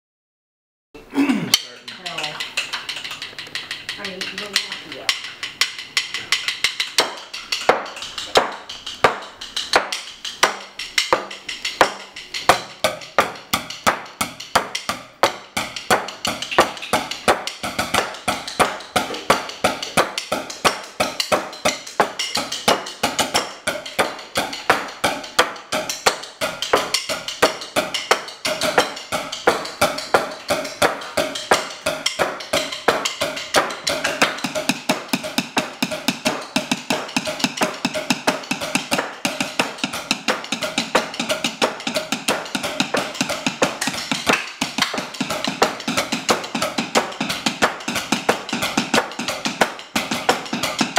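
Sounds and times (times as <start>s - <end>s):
drumsticks tapping on furniture: 1.5s - 50.9s.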